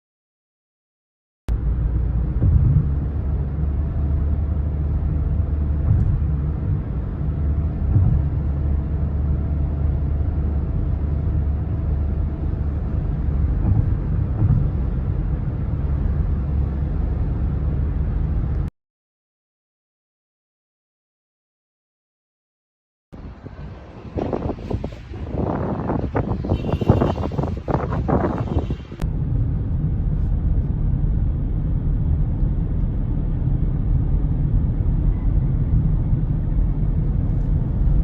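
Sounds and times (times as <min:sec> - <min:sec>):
steady low rumble: 0:01.5 - 0:18.7, 0:23.2 - 0:38.0.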